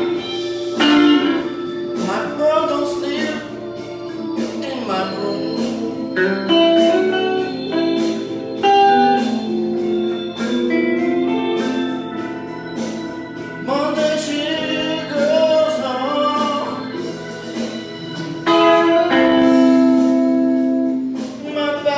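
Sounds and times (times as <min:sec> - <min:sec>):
electric guitar bent notes: 0:00.0 - 0:03.8, 0:04.9 - 0:17.2, 0:18.2 - 0:21.4
person singing: 0:00.0 - 0:21.9.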